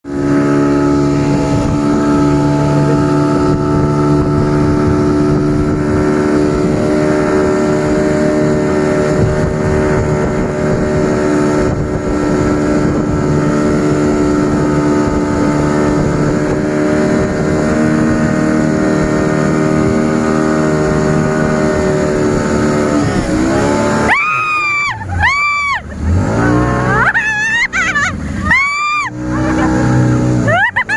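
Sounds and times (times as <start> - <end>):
motorboat engine running: 0.0 - 30.9.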